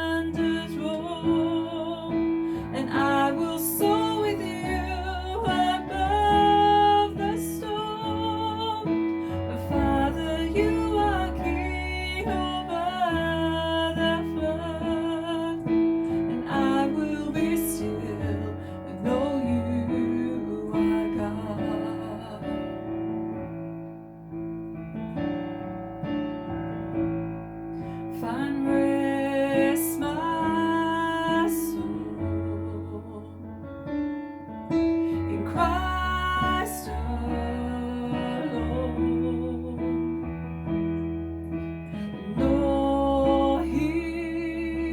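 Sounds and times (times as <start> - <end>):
person singing a worship song: 0.0 - 22.8, 28.2 - 33.4, 35.1 - 40.3, 42.0 - 44.9
piano accompaniment: 0.0 - 44.9.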